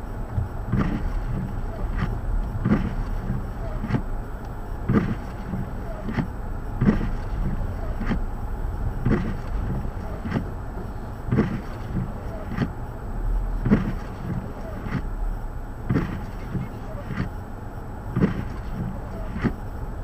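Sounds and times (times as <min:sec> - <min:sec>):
wind rumbling on microphone: 0:00.0 - 0:17.3.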